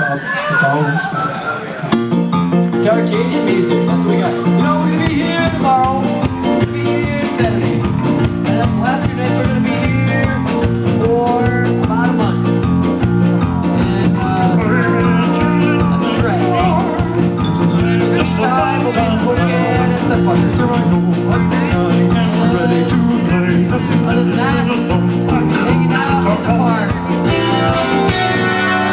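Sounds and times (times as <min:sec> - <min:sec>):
live rock band playing: 0:00.0 - 0:28.9
bass guitar: 0:01.8 - 0:28.9
steady drum beat: 0:03.1 - 0:28.9.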